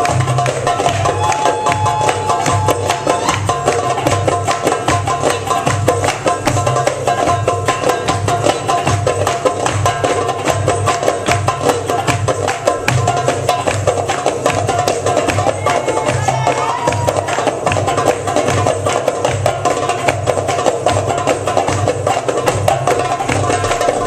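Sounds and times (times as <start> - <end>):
belly dance music: 0.0 - 24.0
fast hand-drum rhythm: 0.0 - 24.0.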